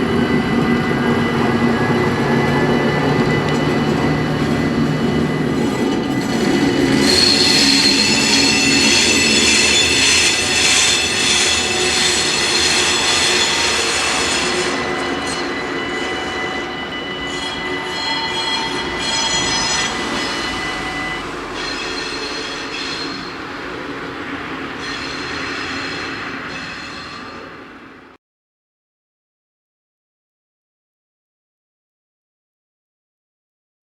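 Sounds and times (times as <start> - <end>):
train wheels squealing: 0.0 - 28.1
train rumble: 0.0 - 28.2.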